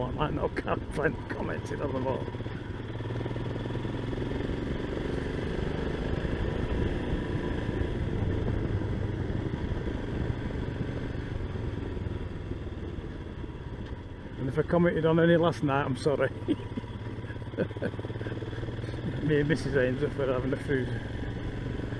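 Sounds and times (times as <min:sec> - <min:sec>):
motorcycle engine cruising: 0:00.0 - 0:21.9
wind and road noise on microphone: 0:00.0 - 0:21.9.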